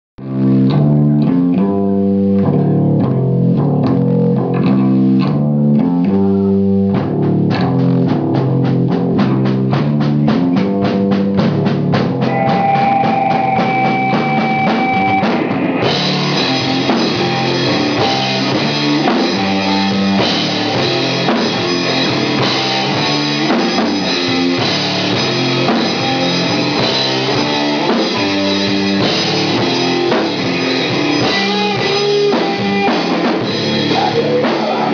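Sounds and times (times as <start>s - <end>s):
bass guitar: 0.2s - 34.9s
drum kit with cymbals: 0.2s - 34.9s
electric guitar riffing: 0.2s - 34.9s.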